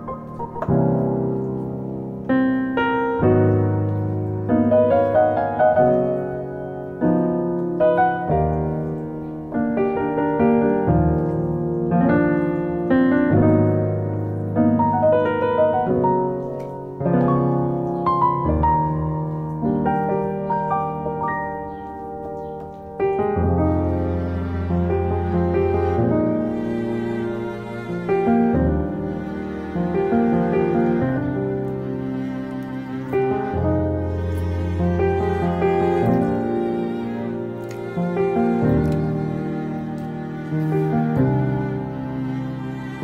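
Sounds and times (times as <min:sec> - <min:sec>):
solo piano chords: 0:00.0 - 0:43.0.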